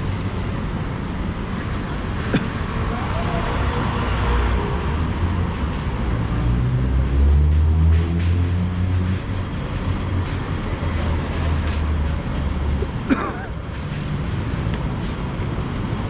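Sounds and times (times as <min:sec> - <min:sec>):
large vehicle engine hum: 0:00.0 - 0:16.0.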